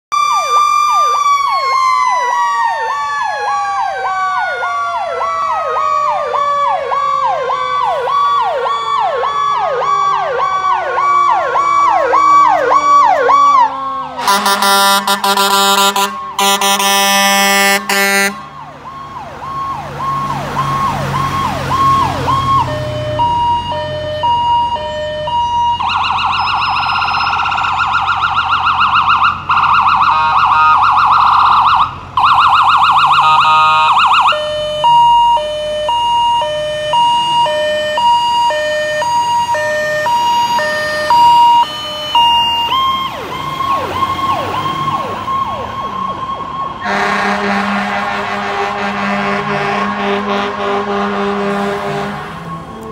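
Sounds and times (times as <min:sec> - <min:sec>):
fire engine siren: 0:00.0 - 0:52.9.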